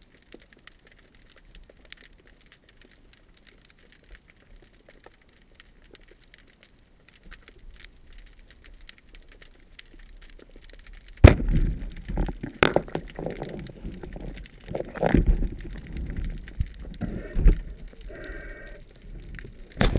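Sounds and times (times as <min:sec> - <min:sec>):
faint underwater crackle: 0:00.0 - 0:19.9.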